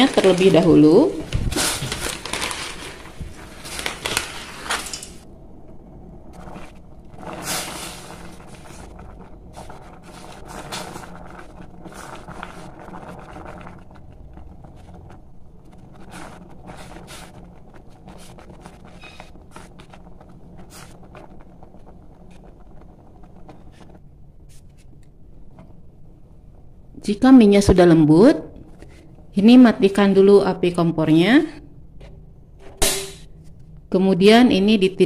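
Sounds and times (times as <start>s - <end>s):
water boiling on gas burner: 0.0s - 28.2s.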